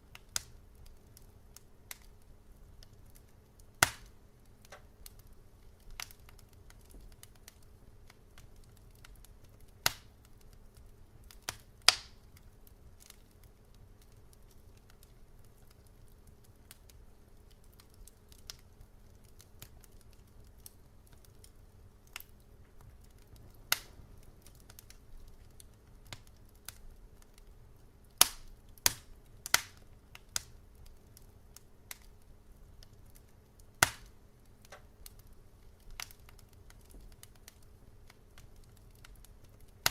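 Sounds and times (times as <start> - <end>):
faint low hum: 0.0 - 39.9
wood fire crackling: 0.0 - 39.9.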